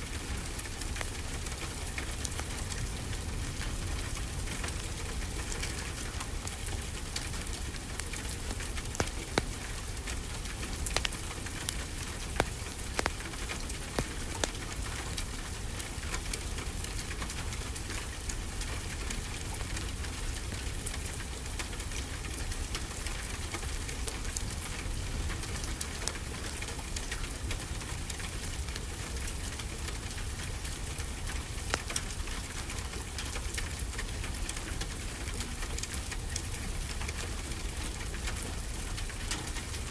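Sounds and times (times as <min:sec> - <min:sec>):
steady rainfall: 0:00.0 - 0:39.9
wood fire crackling and popping: 0:00.0 - 0:39.9.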